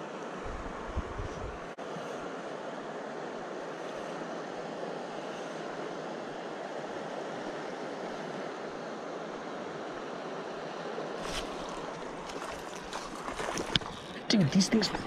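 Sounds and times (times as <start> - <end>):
river water rushing: 1.8 - 15.0.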